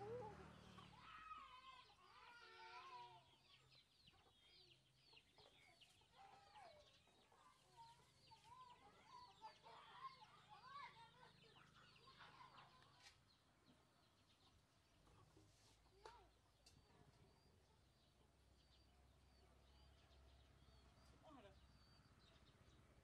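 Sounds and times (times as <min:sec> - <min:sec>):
faint chickens clucking: 0:00.0 - 0:22.5
small birds chirping: 0:00.0 - 0:23.0.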